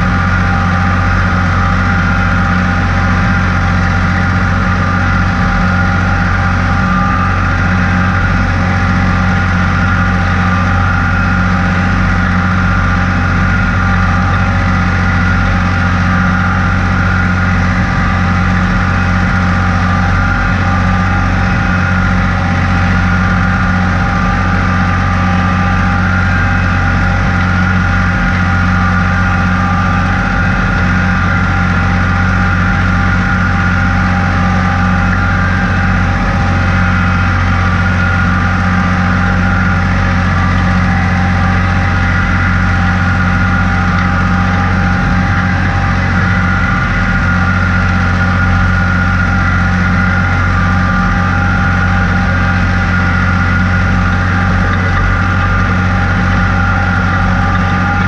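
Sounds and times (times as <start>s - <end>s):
tractor engine droning: 0.0s - 58.0s.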